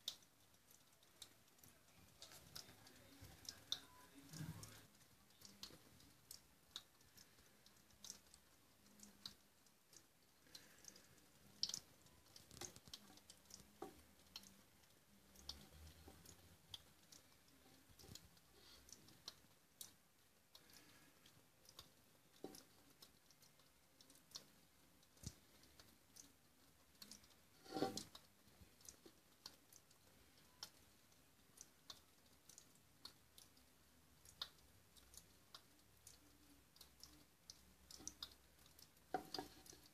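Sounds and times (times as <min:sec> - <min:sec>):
water dripping in a duct: 0:00.0 - 0:39.9.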